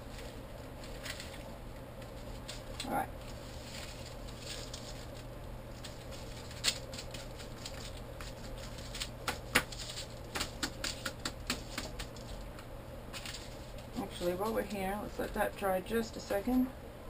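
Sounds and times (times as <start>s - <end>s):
paper rustling: 0.0s - 12.5s, 13.1s - 15.4s.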